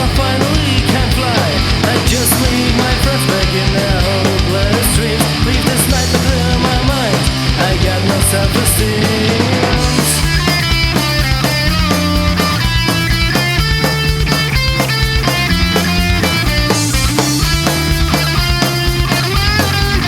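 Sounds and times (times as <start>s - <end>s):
rock music with distorted guitars: 0.0s - 20.0s.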